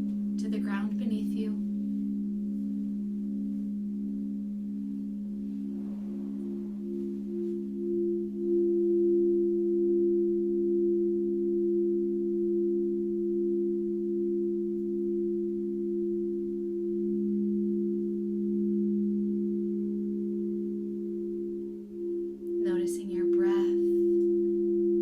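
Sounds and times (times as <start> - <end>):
singing bowls ringing: 1.6 - 25.0.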